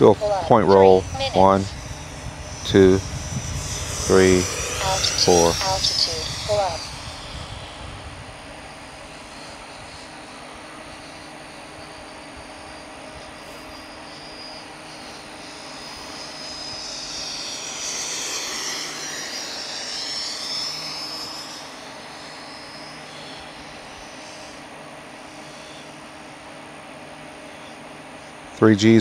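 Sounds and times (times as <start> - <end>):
electric ducted fan whine: 0.0 - 29.0.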